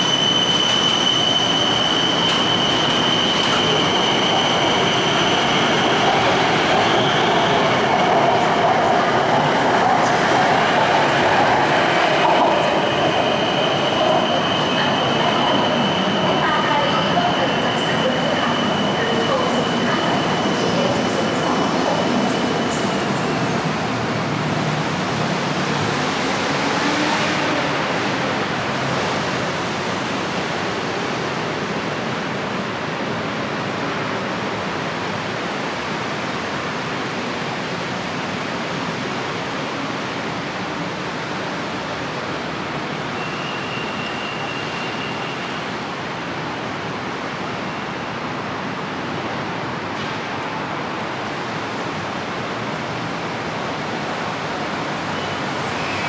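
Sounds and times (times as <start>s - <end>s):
electric train rushing on rails: 0.0s - 56.0s.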